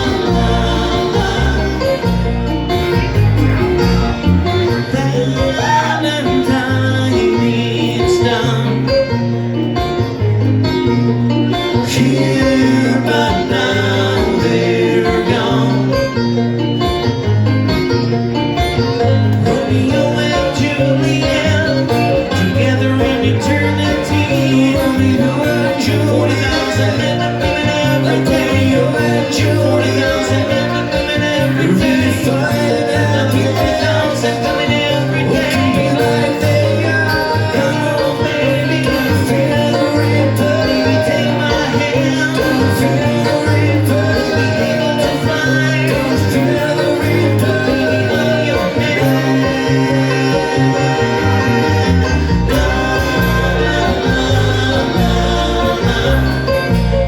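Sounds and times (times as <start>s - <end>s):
bluegrass band music: 0.0s - 57.0s
deep bass: 0.0s - 57.0s.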